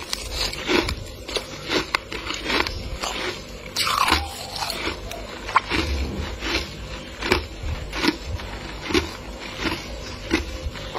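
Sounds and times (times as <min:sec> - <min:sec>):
frost crunching: 0:00.0 - 0:10.9.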